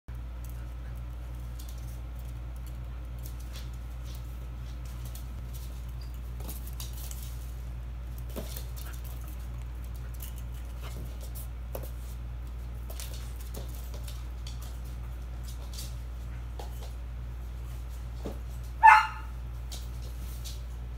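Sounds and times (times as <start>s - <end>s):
dog claws clicking on floor: 0.1s - 17.0s, 19.6s - 20.7s
steady low hum: 0.1s - 20.9s.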